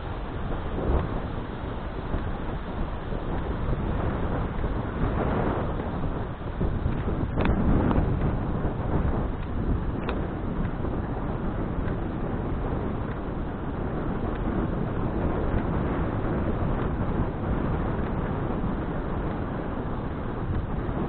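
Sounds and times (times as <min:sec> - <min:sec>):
road rumble: 0:00.0 - 0:21.0
wind rush: 0:00.0 - 0:21.0.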